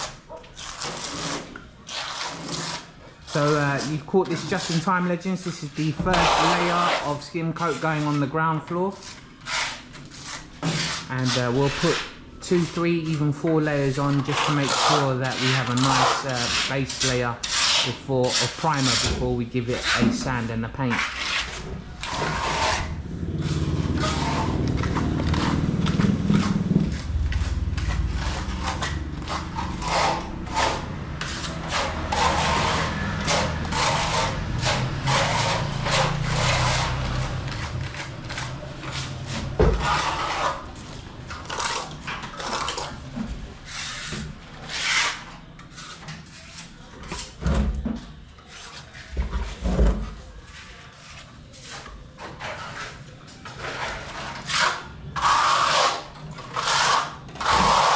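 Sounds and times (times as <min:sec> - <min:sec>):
trowel scraping plaster on wall: 0:00.0 - 0:47.4, 0:48.1 - 0:49.7, 0:50.4 - 0:57.9.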